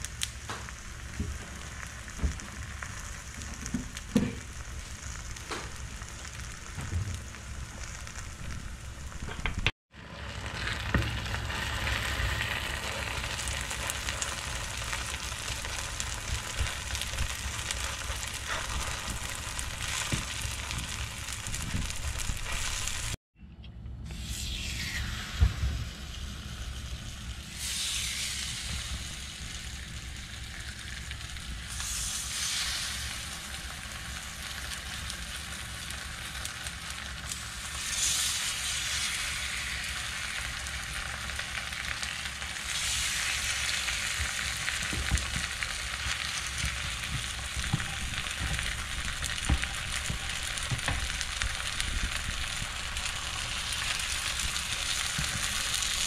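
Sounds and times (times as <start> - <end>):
batter frying in oil: 0.0 - 23.2, 24.1 - 56.0.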